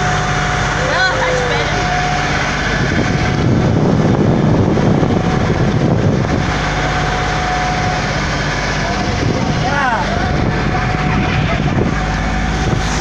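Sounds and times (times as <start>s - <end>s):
boat engine running: 0.0s - 13.0s
wind buffeting microphone: 0.1s - 13.0s.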